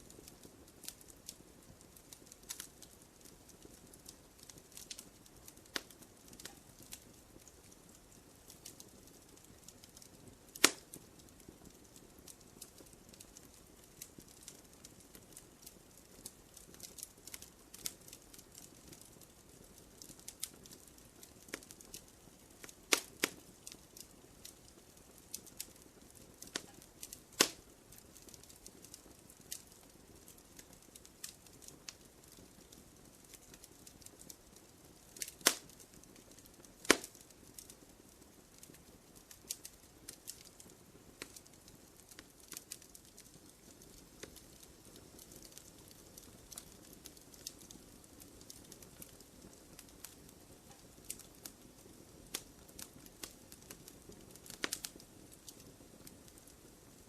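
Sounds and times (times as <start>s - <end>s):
wood fire crackling: 0.0s - 57.0s
loud fire pops: 0.3s - 22.0s, 22.6s - 37.7s, 38.5s - 56.5s.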